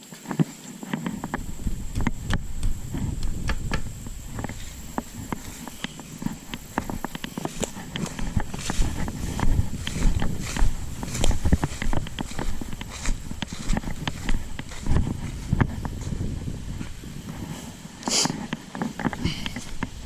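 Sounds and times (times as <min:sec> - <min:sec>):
crunching footsteps: 0:00.0 - 0:20.0
steady low rumble: 0:01.1 - 0:18.0.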